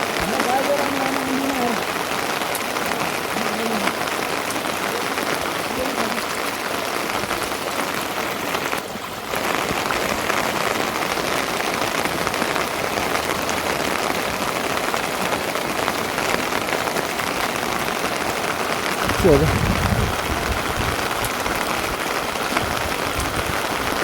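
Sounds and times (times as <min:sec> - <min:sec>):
steady rain patter: 0:00.0 - 0:24.0.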